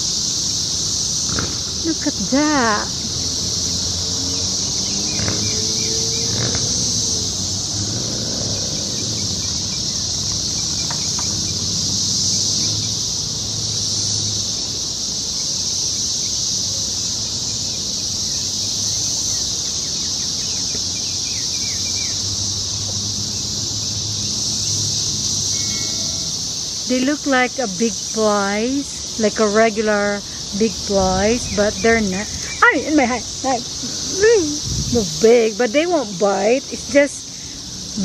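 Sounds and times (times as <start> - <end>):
cicadas buzzing: 0.0 - 38.0.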